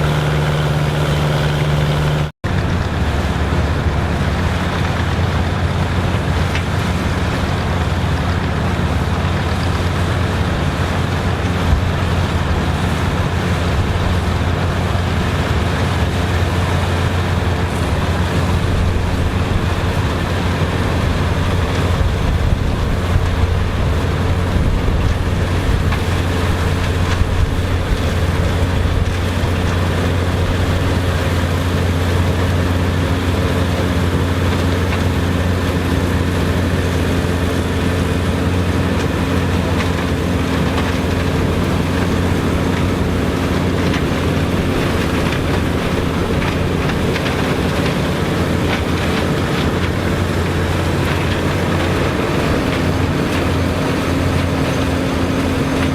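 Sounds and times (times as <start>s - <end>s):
farm machinery engine drone: 0.0s - 55.9s.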